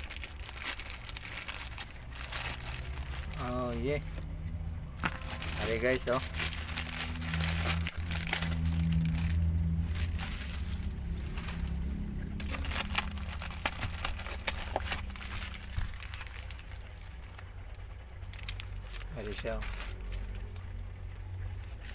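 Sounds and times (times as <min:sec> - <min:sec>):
low hum: 0:00.0 - 0:21.9
plastic bag crinkling: 0:00.0 - 0:21.9.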